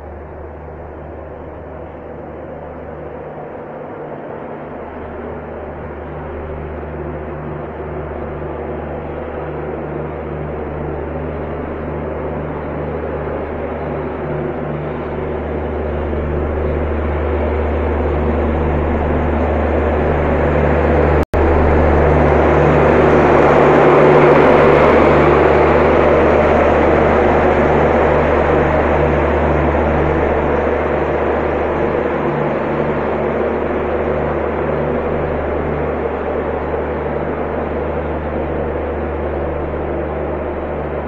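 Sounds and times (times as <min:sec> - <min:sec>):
train passing: 0:00.0 - 0:41.0.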